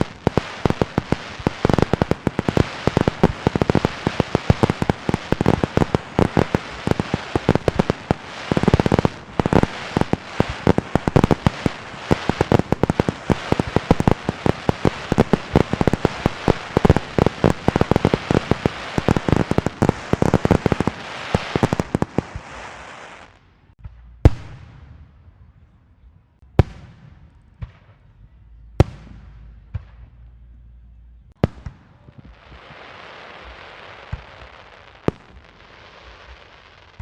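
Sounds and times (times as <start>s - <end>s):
firecrackers popping: 0.0s - 25.0s, 31.3s - 37.0s.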